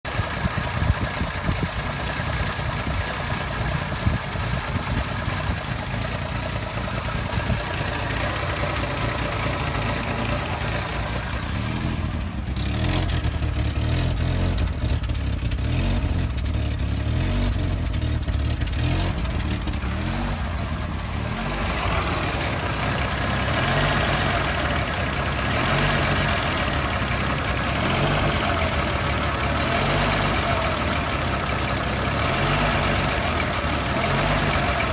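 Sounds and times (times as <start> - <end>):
engine idling roughly: 0.0 - 34.9.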